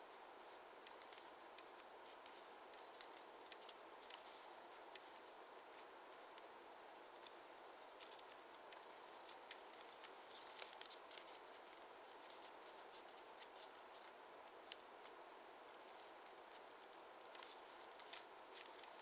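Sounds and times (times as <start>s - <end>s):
paper crinkling and creasing: 0.5s - 5.9s, 7.1s - 19.0s.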